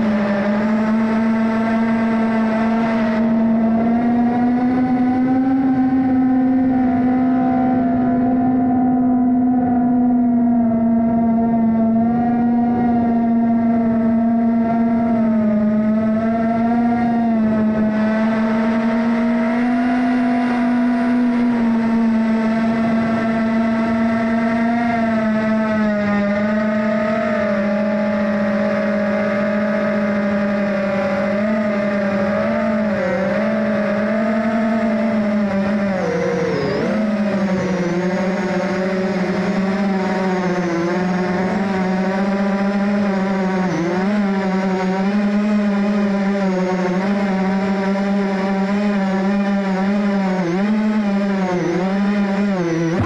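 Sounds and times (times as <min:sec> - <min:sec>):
drone motors whining: 0:00.0 - 0:53.0.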